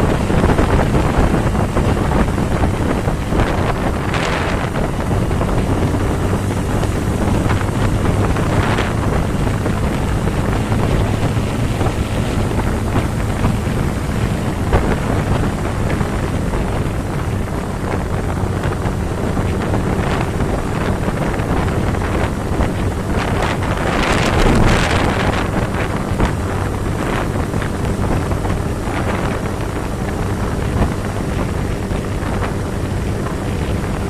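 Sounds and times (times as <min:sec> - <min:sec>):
motorcycle engine drone: 0:00.0 - 0:34.0
wind buffeting microphone: 0:00.0 - 0:34.0.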